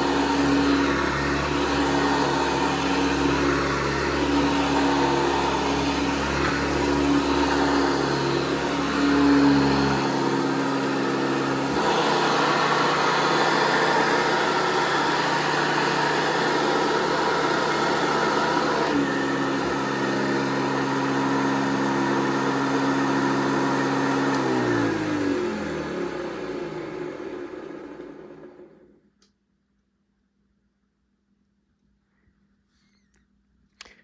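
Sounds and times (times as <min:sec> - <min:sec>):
upright vacuum cleaner running: 0:00.0 - 0:29.0.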